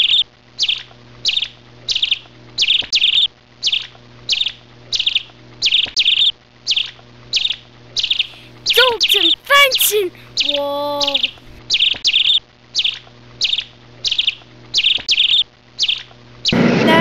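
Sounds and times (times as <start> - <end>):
small bird chirping: 0.0 - 16.6.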